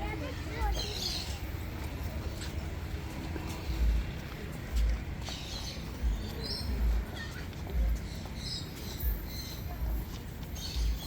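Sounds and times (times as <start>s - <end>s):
birds chirping: 0.2s - 1.6s, 3.5s - 11.0s.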